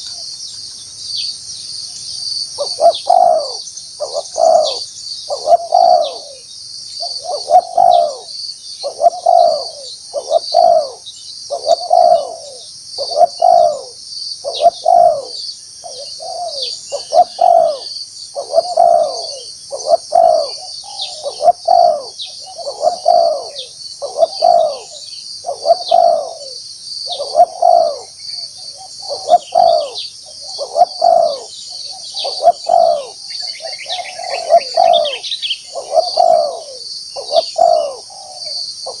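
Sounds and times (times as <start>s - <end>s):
insect chorus: 0.0s - 39.0s
dove cooing: 2.6s - 39.0s.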